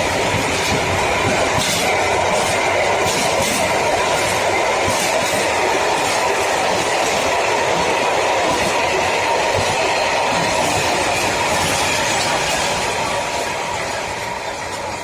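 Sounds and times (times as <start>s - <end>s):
train wheels on rail joints: 0.0s - 15.0s.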